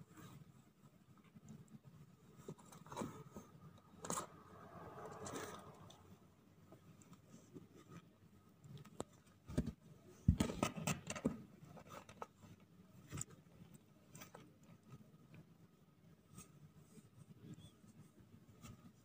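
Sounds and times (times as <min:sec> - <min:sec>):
kittens scuffling and scratching: 0:00.0 - 0:19.0.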